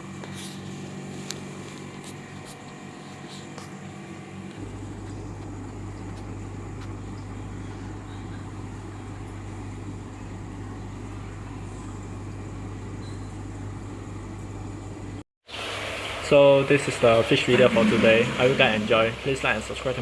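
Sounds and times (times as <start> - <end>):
low machine hum: 0.0 - 15.2, 16.7 - 20.0.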